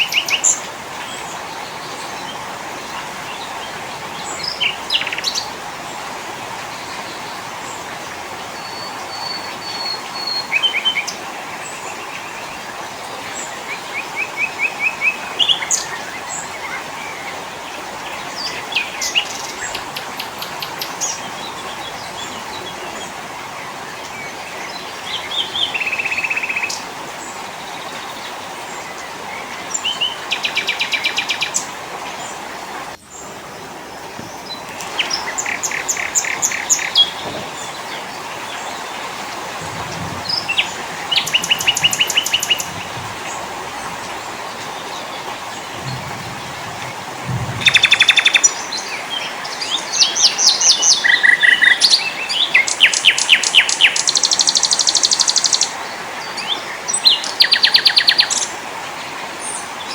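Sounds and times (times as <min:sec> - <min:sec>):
songbirds chirping and trilling: 0:00.0 - 0:59.9
steady background hiss: 0:00.0 - 0:59.9.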